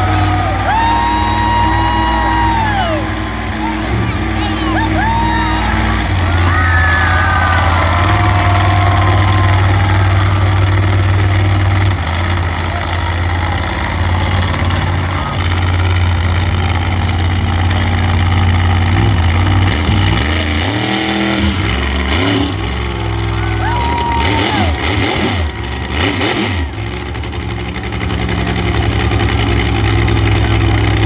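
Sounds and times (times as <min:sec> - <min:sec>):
large engine idling and revving: 0:00.0 - 0:31.0.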